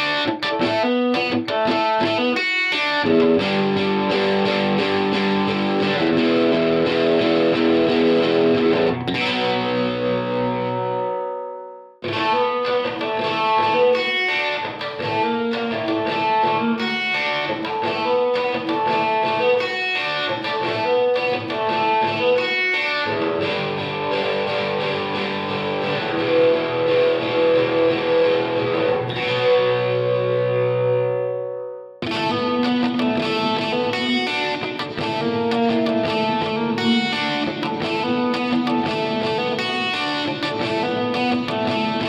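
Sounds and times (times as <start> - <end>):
electric guitar with reverb: 0.0 - 42.0.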